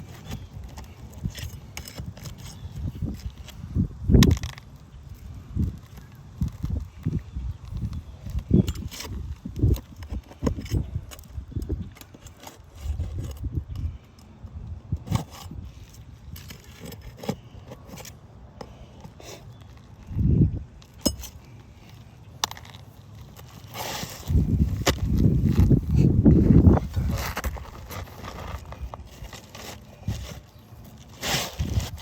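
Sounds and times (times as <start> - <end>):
tools scraping shingles: 0.0 - 4.7, 5.9 - 14.3, 15.0 - 20.2, 20.8 - 32.0.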